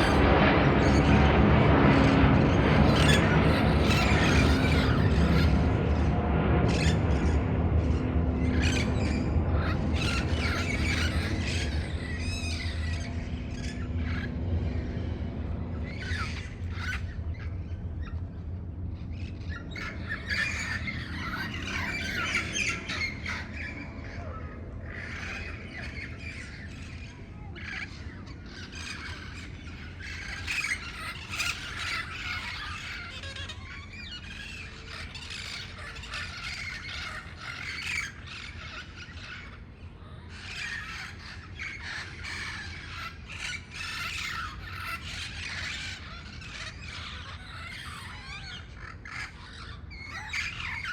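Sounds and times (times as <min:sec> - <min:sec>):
low steady rumble: 0:00.0 - 0:50.9
parrots squawking: 0:00.0 - 0:50.9.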